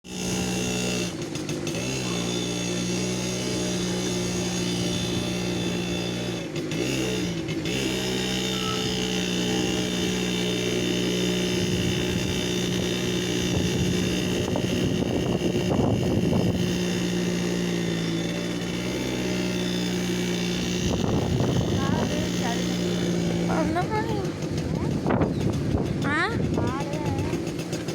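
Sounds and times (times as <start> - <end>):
moped engine running: 0.0 - 27.9.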